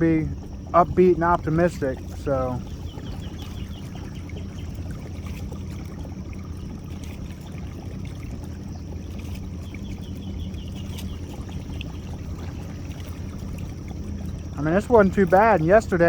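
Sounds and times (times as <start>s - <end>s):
boat motor running: 0.0s - 16.0s
water trickling and splashing: 0.0s - 16.0s.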